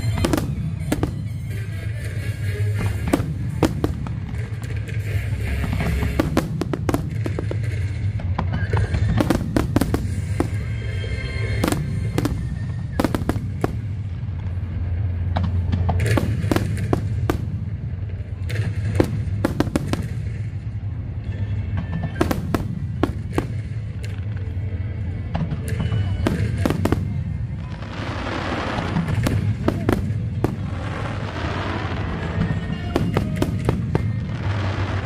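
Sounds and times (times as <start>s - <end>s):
fireworks bangs and crackles: 0.0s - 35.0s
low rumble: 2.6s - 35.0s.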